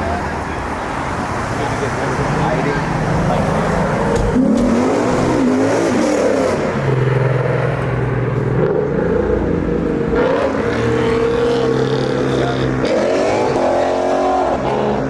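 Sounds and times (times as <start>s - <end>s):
car engines running: 0.0s - 15.0s
engine revving: 1.8s - 15.0s.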